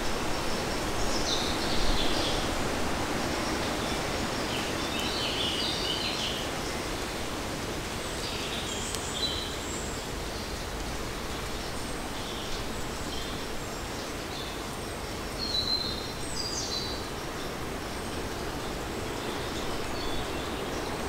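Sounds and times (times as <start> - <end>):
light rain and wind in leaves: 0.0 - 21.0.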